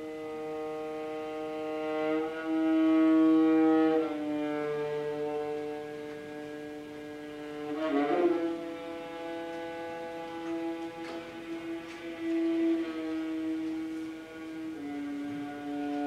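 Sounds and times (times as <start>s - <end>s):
bowed strings chamber music: 0.0s - 16.0s.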